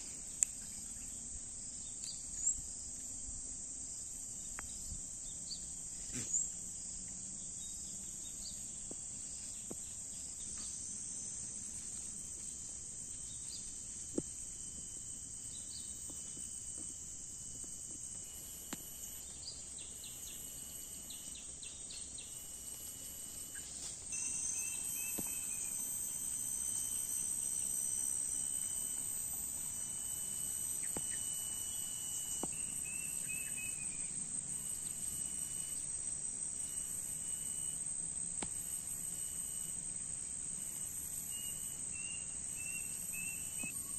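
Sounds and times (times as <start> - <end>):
insects chirring: 0.0 - 43.9.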